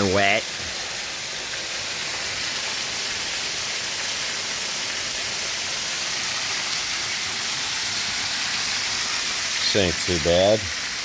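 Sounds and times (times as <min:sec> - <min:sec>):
waterfall hissing: 0:00.0 - 0:11.0.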